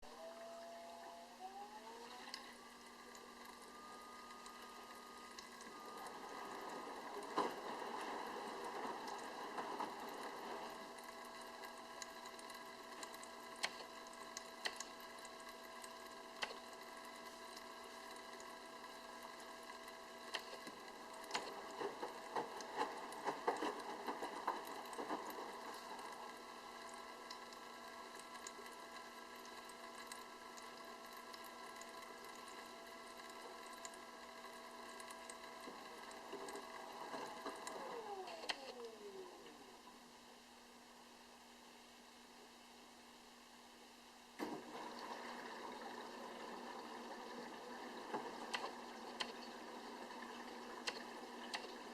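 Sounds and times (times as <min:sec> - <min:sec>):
washing machine humming: 0:00.0 - 0:51.9.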